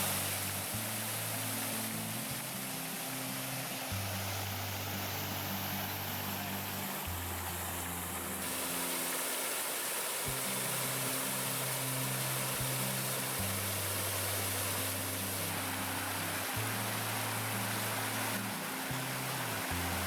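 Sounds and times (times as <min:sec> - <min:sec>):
music with low bass and chords: 0:00.0 - 0:09.0, 0:10.3 - 0:20.0
steady hiss: 0:00.0 - 0:20.0.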